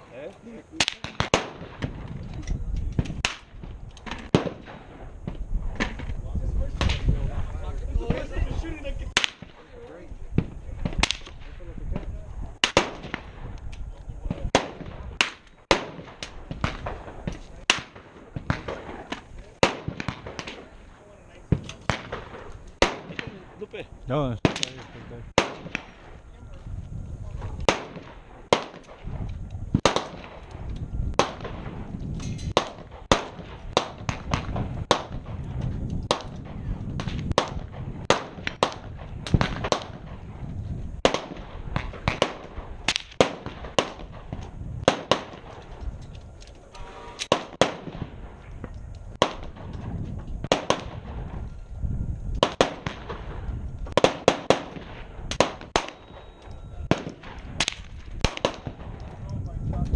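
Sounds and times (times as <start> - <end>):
gunshots: 0.0 - 2.4, 3.0 - 6.1, 9.1 - 13.5, 14.2 - 26.2, 27.4 - 45.8, 46.8 - 51.5, 52.4 - 59.2.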